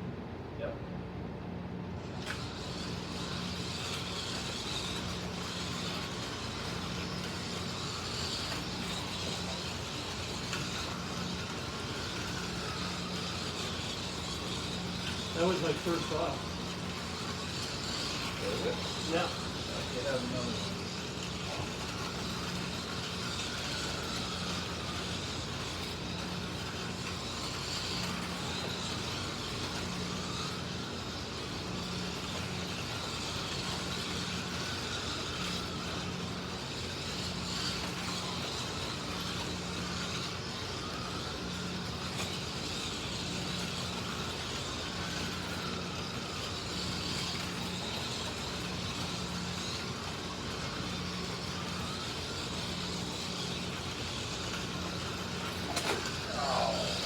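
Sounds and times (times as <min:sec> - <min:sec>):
slot car motors whining: 0:00.6 - 0:57.0.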